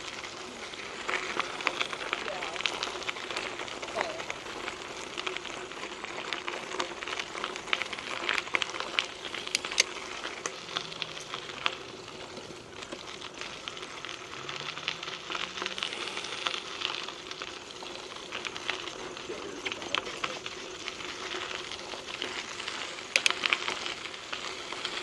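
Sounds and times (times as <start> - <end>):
bike tyres crunching over gravel: 0.0 - 25.0.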